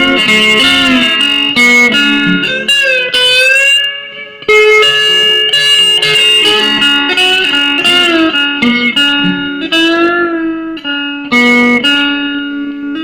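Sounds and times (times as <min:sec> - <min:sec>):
slide guitar: 0:00.0 - 0:13.0.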